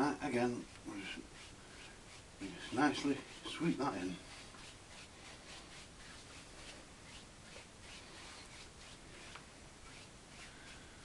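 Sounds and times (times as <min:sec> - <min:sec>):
paintbrush swishing on canvas: 0:00.6 - 0:10.9.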